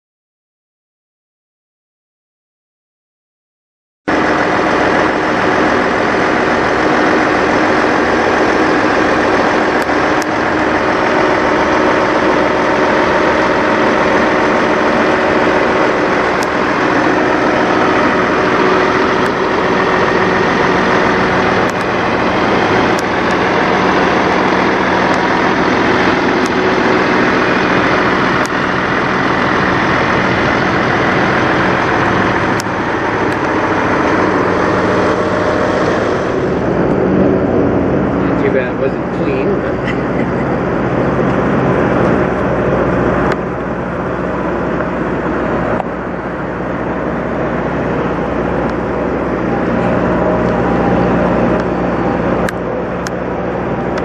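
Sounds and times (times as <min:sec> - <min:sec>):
diesel truck engine idling: 0:04.1 - 0:54.0.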